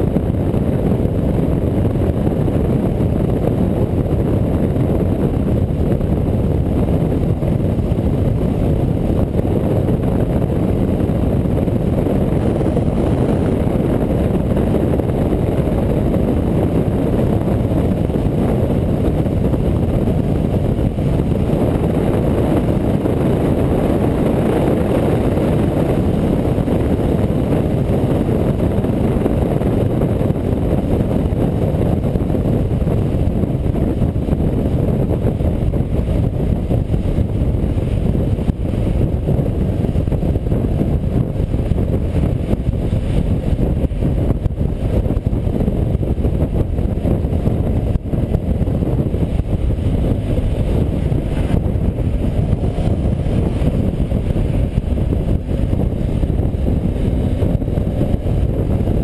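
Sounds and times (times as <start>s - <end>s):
motorcycle engine and tyres droning: 0.0s - 59.0s
wind rushing over microphone: 0.0s - 59.0s.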